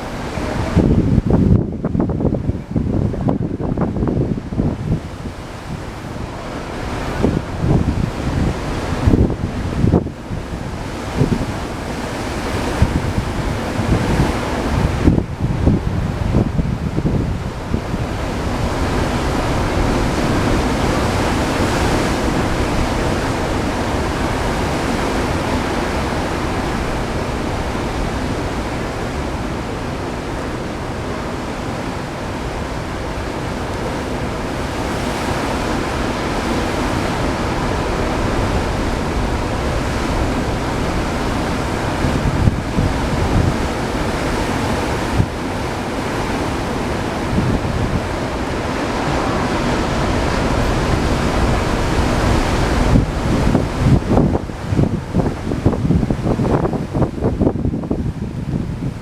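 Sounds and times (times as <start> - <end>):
surf breaking on rocks: 0.0 - 57.6
wind buffeting microphone: 0.0 - 59.0.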